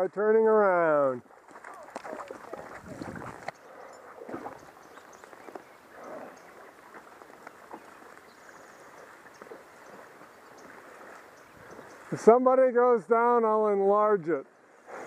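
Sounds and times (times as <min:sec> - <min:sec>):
hooves splashing in water: 0:00.0 - 0:12.6.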